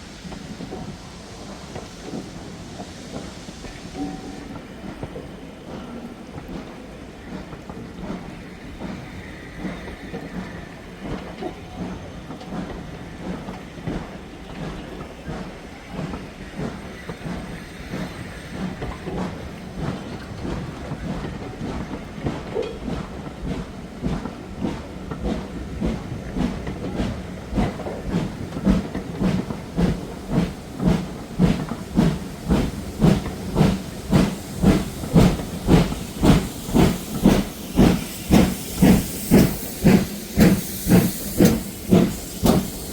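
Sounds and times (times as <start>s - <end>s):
steam hissing: 0.0s - 42.9s
steam locomotive chuffing: 0.0s - 42.9s.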